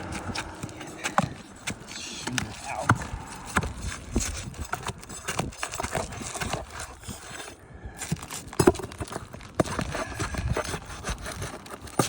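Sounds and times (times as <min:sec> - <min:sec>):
taps knocks and scrapes on shingle: 0:00.0 - 0:12.0.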